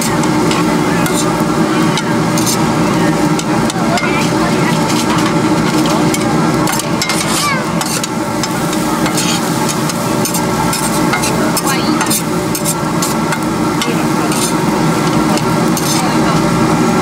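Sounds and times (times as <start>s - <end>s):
metal utensil scraping a wok: 0.0s - 16.6s
food sizzling: 0.0s - 17.0s.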